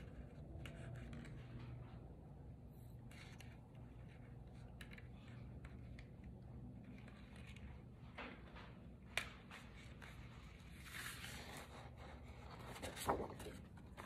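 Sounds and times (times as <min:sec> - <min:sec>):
low steady hum: 0:00.0 - 0:14.0
soft paper rustle: 0:00.0 - 0:14.0.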